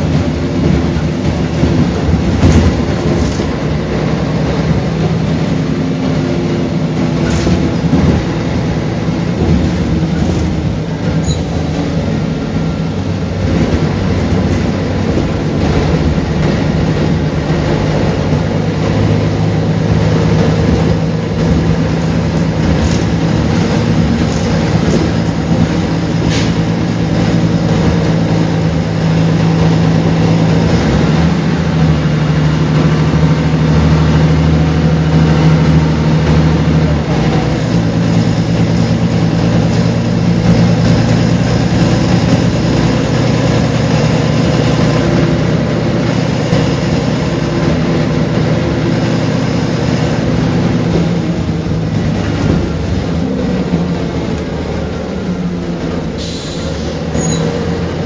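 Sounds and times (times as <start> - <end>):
bus engine low drone: 0.0 - 58.0.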